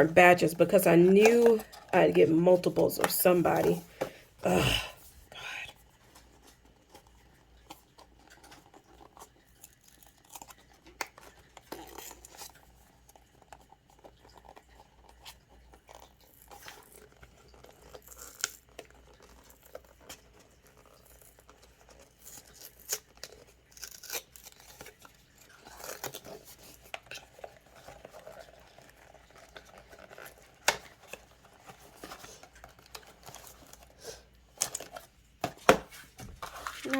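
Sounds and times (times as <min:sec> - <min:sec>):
box handling clicks and rustles: 0:00.0 - 0:04.4, 0:05.8 - 0:36.9
plastic wrap crinkling and tearing: 0:06.4 - 0:35.3, 0:36.0 - 0:36.9.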